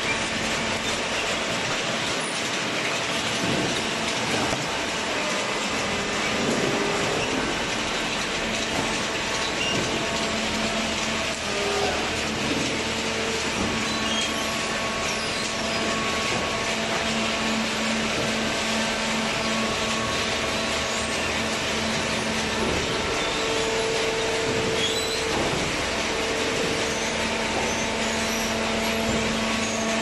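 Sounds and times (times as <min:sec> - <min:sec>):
constant hum: 0:00.0 - 0:30.0.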